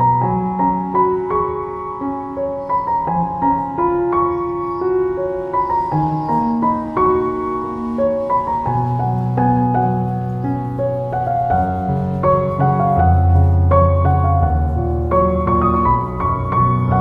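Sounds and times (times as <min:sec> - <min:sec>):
slow keyboard melody: 0:00.0 - 0:17.0.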